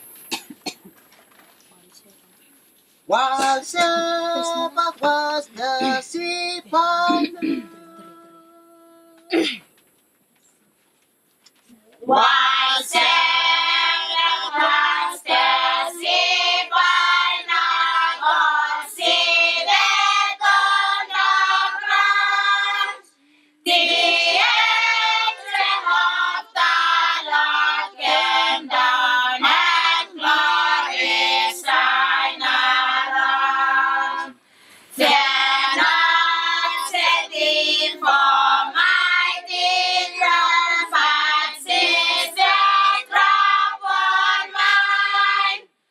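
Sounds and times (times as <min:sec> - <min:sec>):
children singing a carol: 0:03.3 - 0:08.4, 0:12.1 - 0:23.1, 0:23.7 - 0:34.4, 0:35.0 - 0:45.7.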